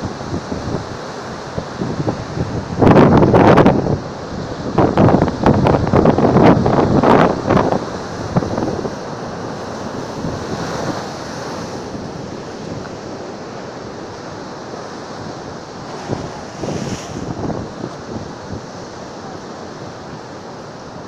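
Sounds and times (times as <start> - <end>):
wind buffeting microphone: 0.0 - 13.0, 15.2 - 20.2
waves breaking: 0.0 - 21.0.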